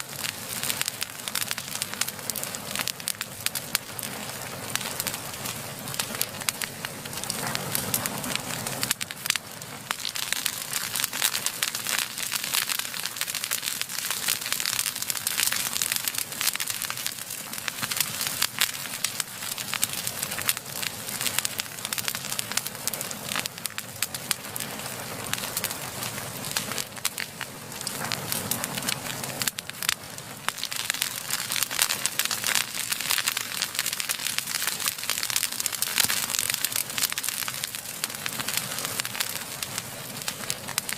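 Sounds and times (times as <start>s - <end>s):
fire hissing: 0.0s - 40.9s
wood fire crackling and popping: 0.0s - 40.9s.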